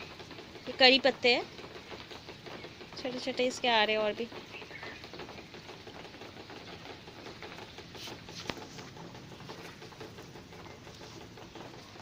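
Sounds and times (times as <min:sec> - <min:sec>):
rain pattering and dripping: 0:00.0 - 0:12.0.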